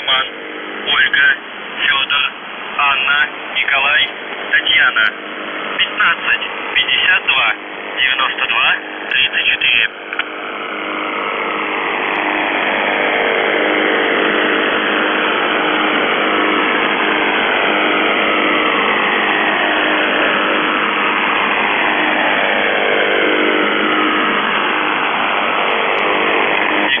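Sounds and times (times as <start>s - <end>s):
radio static hiss: 0.0s - 12.7s, 13.6s - 27.0s
steady buzzing tone: 0.0s - 27.0s.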